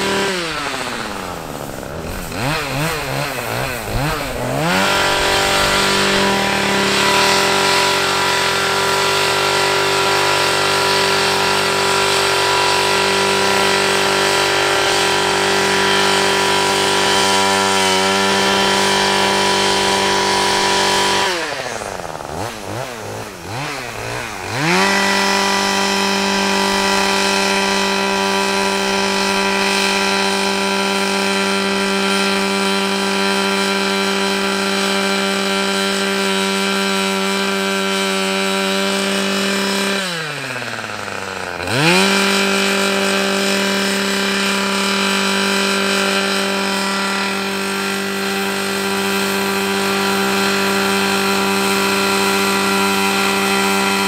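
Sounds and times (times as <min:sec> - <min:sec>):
two-stroke engine running: 0:00.0 - 0:54.0.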